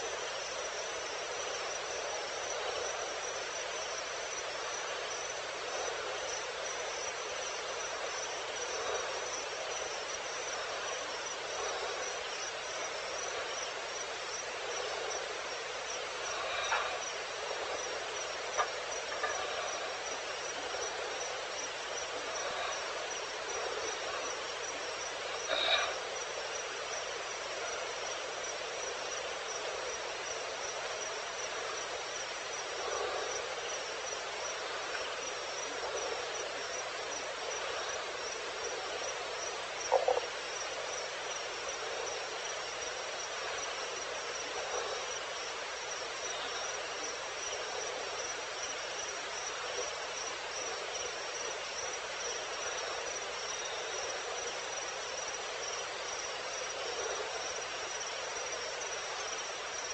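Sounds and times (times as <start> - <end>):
dense hiss of insects: 0.0 - 59.9.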